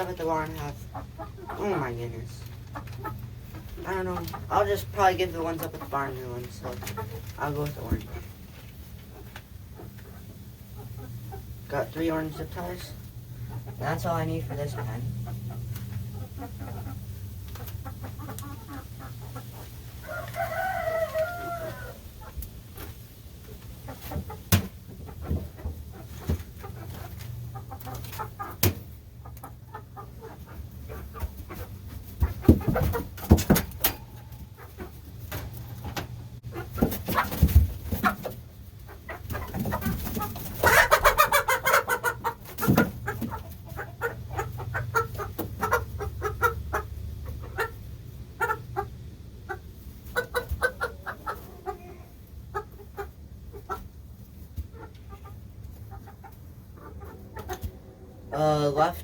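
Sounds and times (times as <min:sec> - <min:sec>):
chickens calling: 0:00.0 - 0:59.0.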